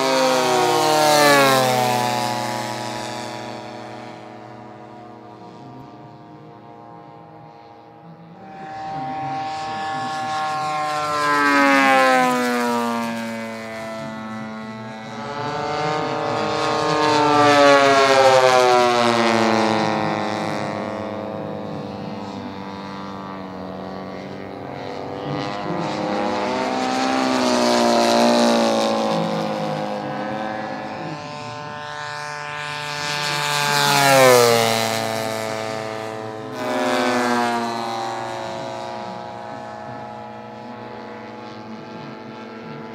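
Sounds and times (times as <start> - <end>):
model plane engines passing low: 0.0 - 42.9.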